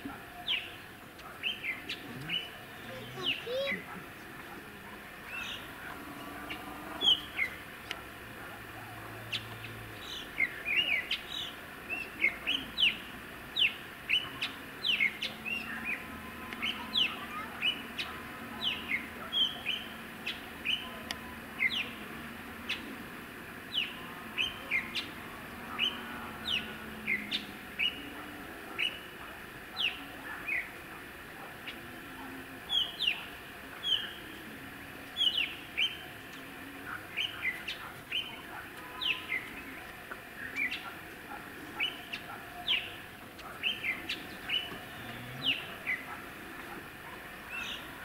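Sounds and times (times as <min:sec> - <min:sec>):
small songbirds chirping: 0:00.2 - 0:48.0.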